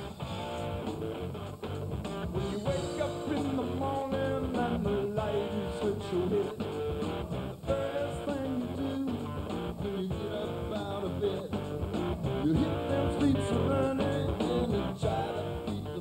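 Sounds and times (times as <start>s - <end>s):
bass: 0.0s - 16.0s
electric guitar: 0.0s - 16.0s
steady drum beat: 0.0s - 16.0s.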